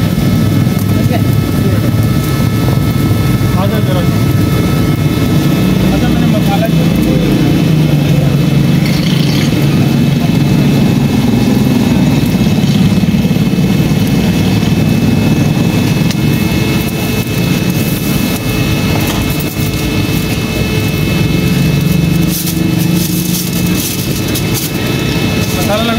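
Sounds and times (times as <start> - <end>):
motor droning: 0.0 - 25.9.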